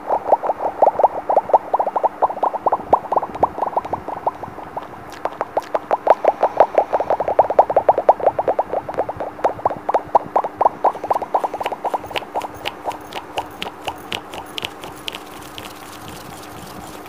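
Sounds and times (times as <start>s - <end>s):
finger tapping on microphone: 1.8s - 15.8s.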